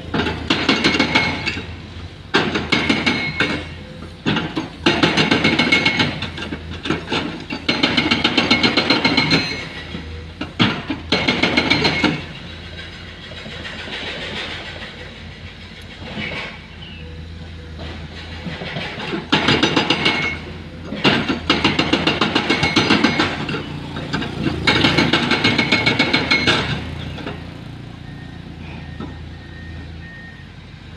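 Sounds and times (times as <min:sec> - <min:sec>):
hydraulic breaker hammering rock: 0:00.0 - 0:01.7, 0:02.3 - 0:16.6, 0:17.9 - 0:27.5
diesel engine running: 0:00.0 - 0:30.9.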